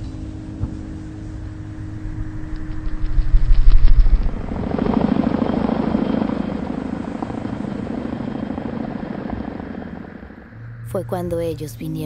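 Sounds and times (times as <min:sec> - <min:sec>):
loud deep rumble: 0:00.0 - 0:11.1
helicopter rotor beating: 0:00.0 - 0:12.0.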